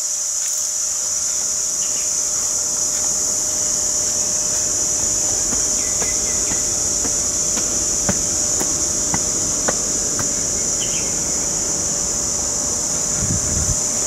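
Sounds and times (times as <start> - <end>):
insects shrilling: 1.8 - 13.2.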